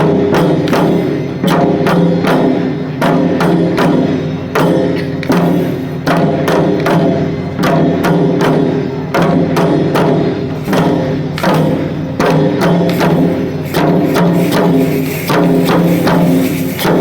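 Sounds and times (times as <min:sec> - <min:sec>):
taiko drum beating: 0:00.0 - 0:17.0.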